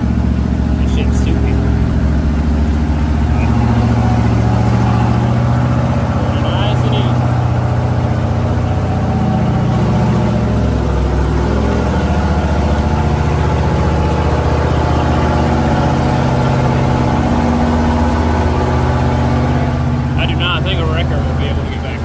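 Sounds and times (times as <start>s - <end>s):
pickup engine running under load: 0.0s - 22.0s.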